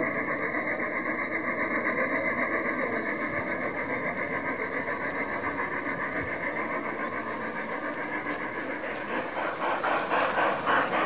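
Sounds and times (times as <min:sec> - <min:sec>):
model train pulsing hum: 0:00.0 - 0:11.0.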